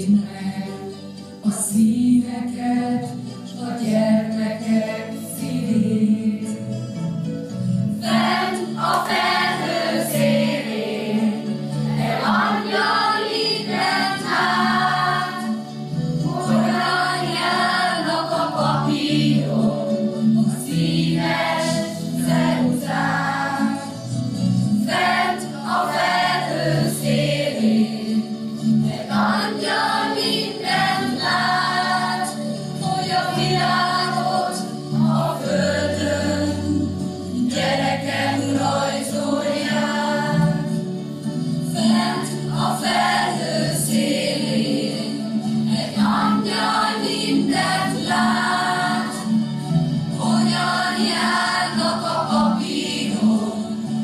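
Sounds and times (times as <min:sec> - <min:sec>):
mixed choir singing: 0:00.0 - 0:06.5, 0:07.9 - 0:54.0.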